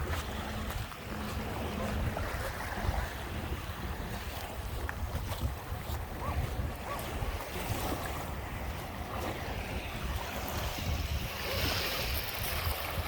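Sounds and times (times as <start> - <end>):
small waves washing onto beach: 0.0 - 13.0
wind buffeting microphone: 0.0 - 13.0.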